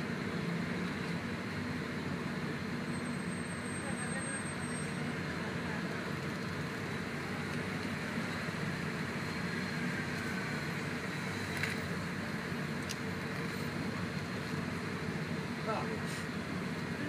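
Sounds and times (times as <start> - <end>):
idling engines in traffic: 0.0 - 17.0.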